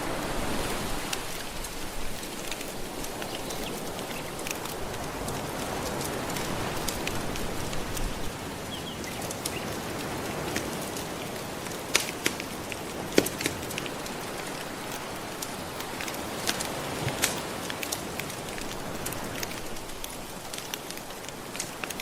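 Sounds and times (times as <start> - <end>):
gentle ocean waves washing: 0.0 - 22.0
wood fire crackling and popping: 0.4 - 22.0.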